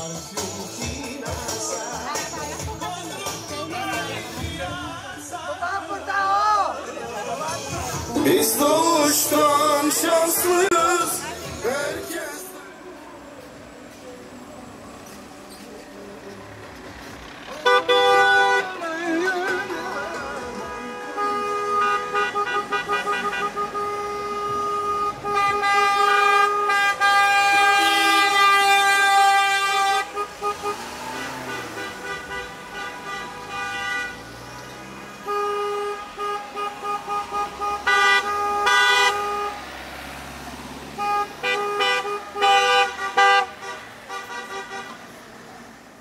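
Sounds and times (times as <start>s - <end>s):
car horns honking: 0.0s - 12.8s, 16.6s - 45.8s.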